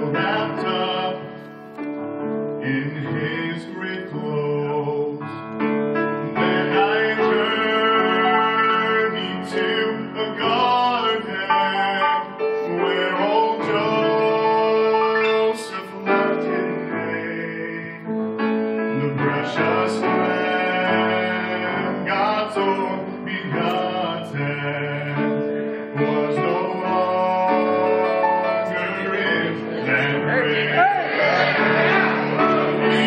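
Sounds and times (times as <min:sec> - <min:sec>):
gospel vocal trio singing: 0:00.0 - 0:01.5, 0:06.3 - 0:18.1, 0:18.9 - 0:33.0
instrumental accompaniment: 0:04.3 - 0:33.0.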